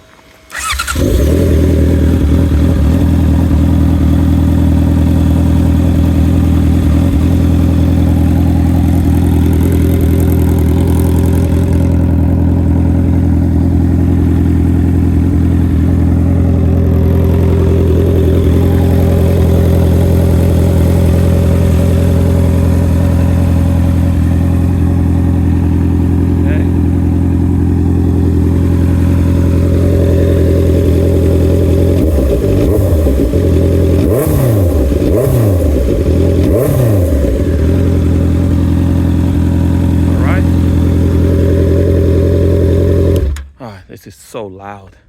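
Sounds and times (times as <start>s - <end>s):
loud motorcycle engine idling: 0.5s - 43.4s.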